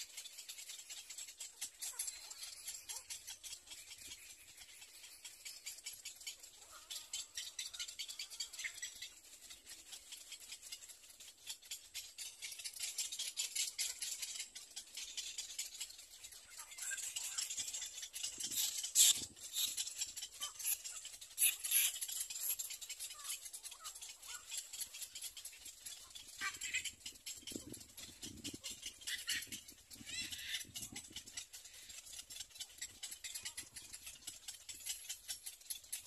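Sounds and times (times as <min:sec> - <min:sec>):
egret chicks clicking chatter: 0:00.0 - 0:36.0.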